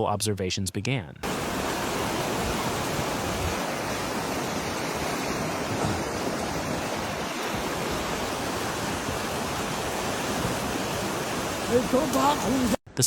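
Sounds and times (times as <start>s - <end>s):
rushing floodwater roar: 1.2s - 12.8s.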